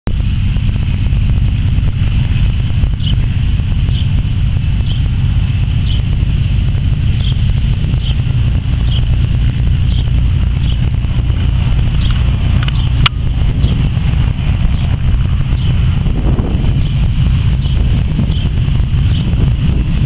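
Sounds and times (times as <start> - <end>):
radial aircraft engines rumbling: 0.0 - 20.0.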